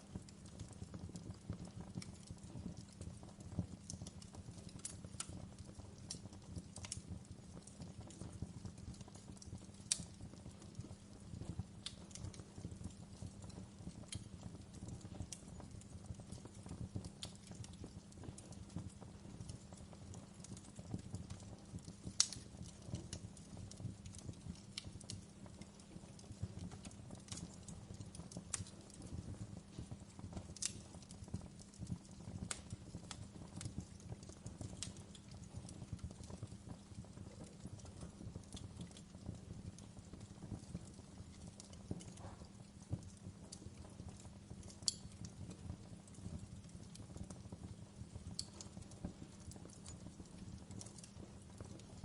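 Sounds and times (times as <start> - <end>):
fire popping and snapping: 0.0 - 52.0
fire rumbling: 0.0 - 52.0.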